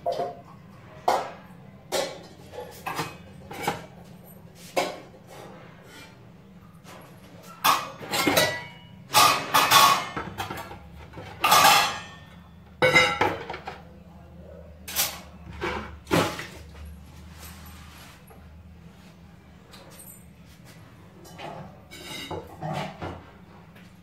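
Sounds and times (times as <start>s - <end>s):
utensils and dishes clattering: 0.0s - 14.0s, 14.8s - 18.5s, 19.7s - 24.0s.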